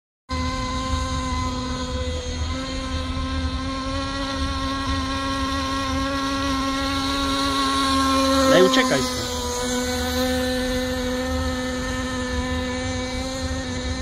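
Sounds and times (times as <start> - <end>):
model boat engine whining: 0.3 - 14.0.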